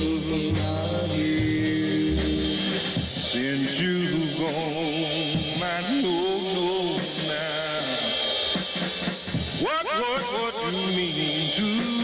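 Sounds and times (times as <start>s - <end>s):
r and b song with band: 0.0s - 12.0s.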